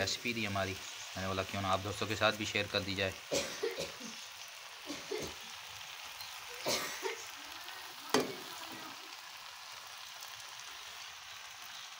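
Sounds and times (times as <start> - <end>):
noodles sizzling in a pan: 0.0 - 11.9.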